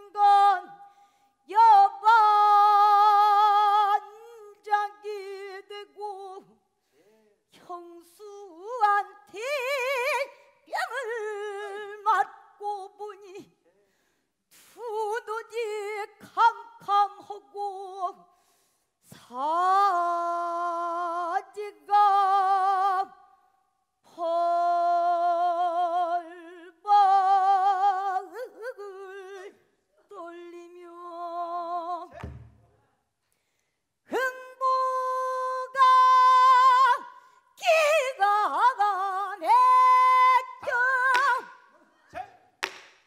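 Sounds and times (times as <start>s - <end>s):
woman singing with wide vibrato: 0.0s - 6.7s, 7.5s - 13.5s, 14.5s - 32.4s, 34.0s - 42.9s.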